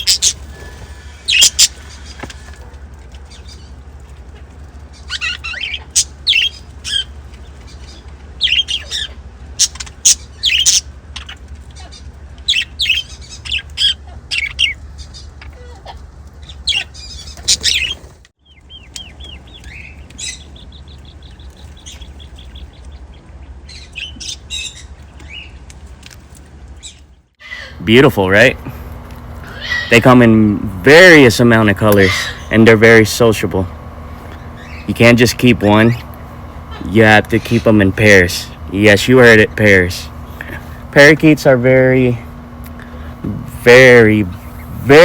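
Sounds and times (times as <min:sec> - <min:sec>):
budgerigars chirping and chattering: 0:00.0 - 0:25.7, 0:26.8 - 0:28.7, 0:29.4 - 0:45.0
steady low hum: 0:00.0 - 0:45.0.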